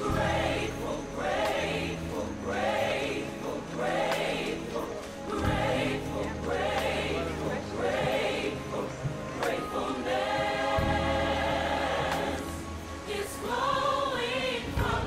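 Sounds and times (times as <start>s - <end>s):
choir singing with accompaniment: 0.0s - 15.0s.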